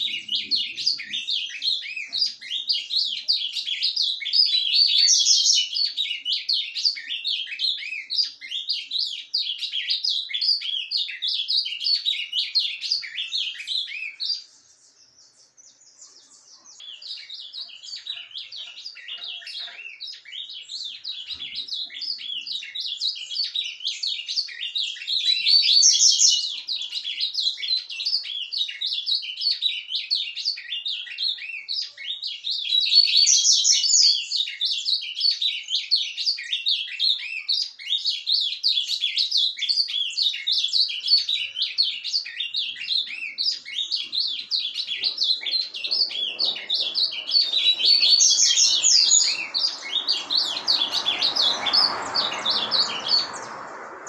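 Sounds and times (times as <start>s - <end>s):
bird singing a rapid warble: 0.0s - 54.0s.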